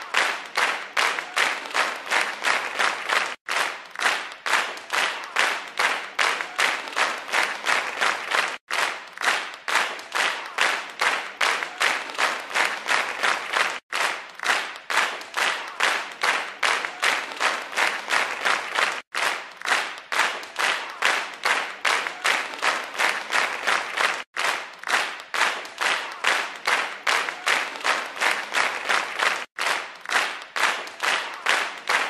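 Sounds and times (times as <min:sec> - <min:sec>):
rhythmic clapping: 0:00.0 - 0:32.0.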